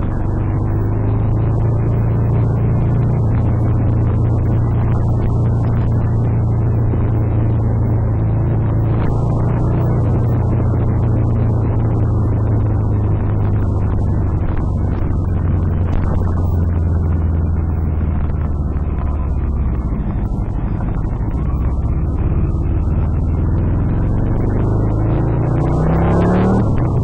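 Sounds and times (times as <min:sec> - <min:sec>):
motorcycle engine running: 0:00.0 - 0:27.0
wind and road noise: 0:00.0 - 0:27.0.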